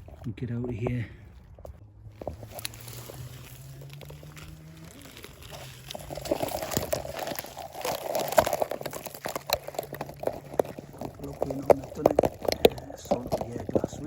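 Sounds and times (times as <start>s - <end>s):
leaves and twigs crackling: 1.7s - 14.0s.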